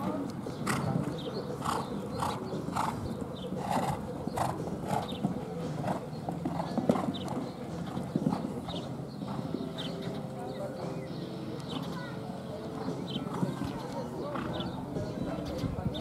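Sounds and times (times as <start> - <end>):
horse cantering on sand: 0.1 - 16.0.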